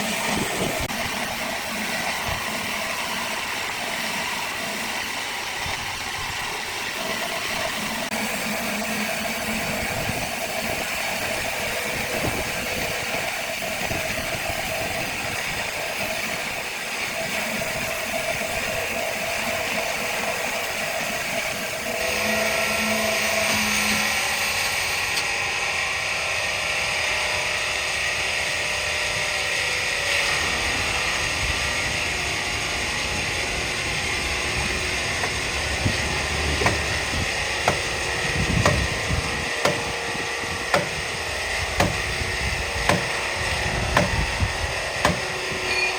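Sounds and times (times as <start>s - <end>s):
heavy machinery running: 0.0s - 45.9s.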